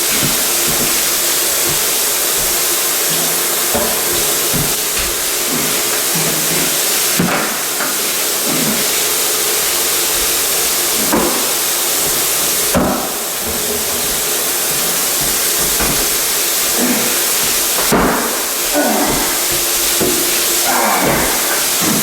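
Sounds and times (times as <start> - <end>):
electric fan hiss: 0.0 - 22.0.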